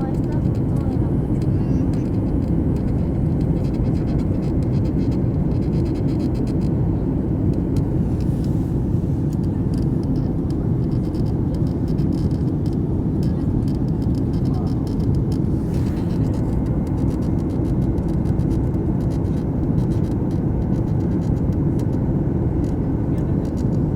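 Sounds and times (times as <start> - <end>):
jet engines rumbling: 0.0 - 23.9.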